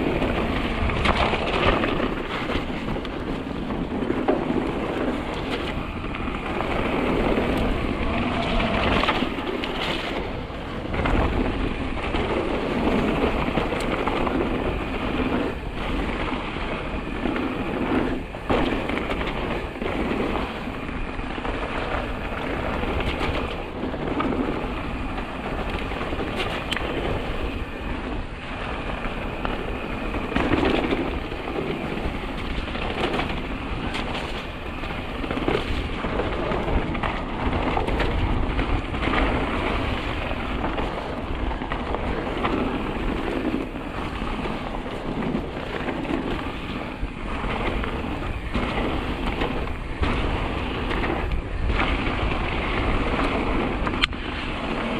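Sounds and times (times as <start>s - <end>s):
bike knocks and rattles: 0.0s - 54.9s
wind and tyre noise: 0.0s - 54.9s.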